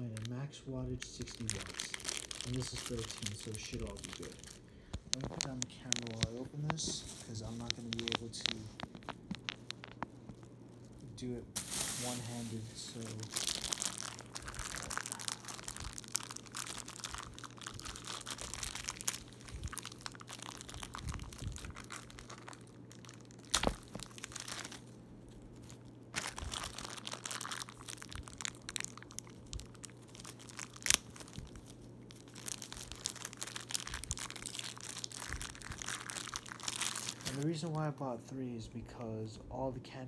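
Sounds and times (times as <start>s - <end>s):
packaging crinkling and tearing: 0.0s - 0.4s, 1.0s - 11.0s, 11.6s - 37.5s.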